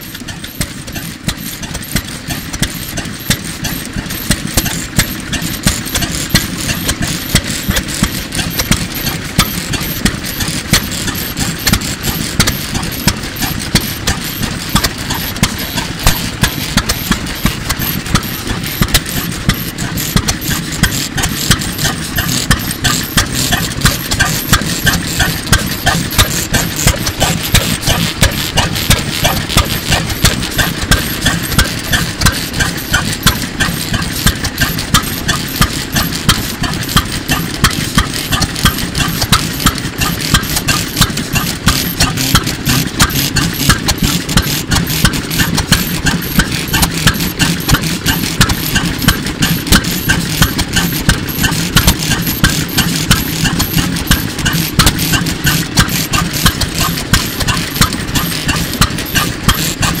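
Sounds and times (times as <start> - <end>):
stationary engine running: 0.0 - 60.0.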